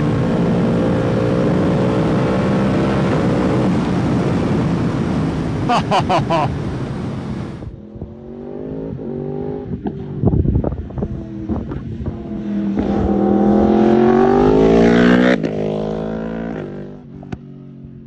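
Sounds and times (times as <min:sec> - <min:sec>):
motorcycle engine accelerating: 0:00.0 - 0:06.2, 0:07.7 - 0:18.0.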